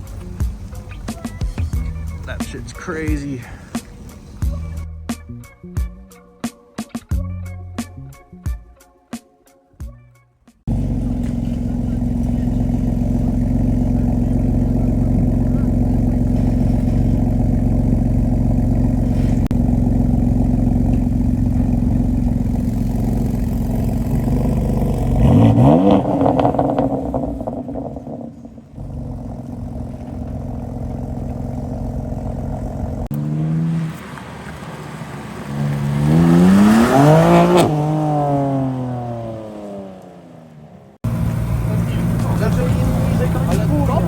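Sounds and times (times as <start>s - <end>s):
car engine idling and revving: 0.0s - 5.2s, 10.7s - 44.0s.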